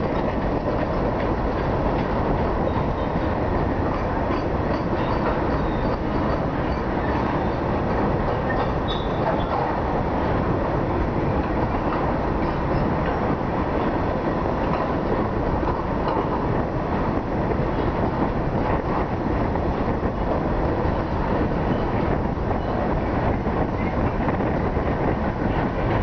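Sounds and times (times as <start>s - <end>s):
freight wagons rumbling on rails: 0.0s - 26.0s.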